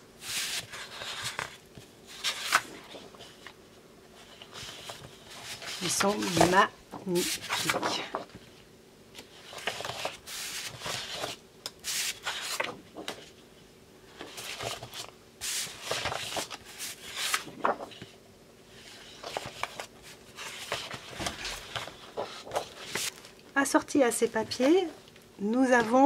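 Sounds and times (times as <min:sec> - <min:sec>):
paper sheets sliding and rustling: 0:00.2 - 0:03.6, 0:04.2 - 0:08.5, 0:09.2 - 0:13.4, 0:14.1 - 0:23.3.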